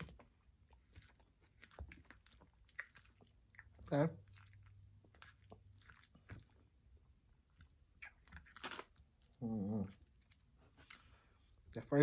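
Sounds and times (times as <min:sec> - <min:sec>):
person chewing food: 0:00.0 - 0:11.9.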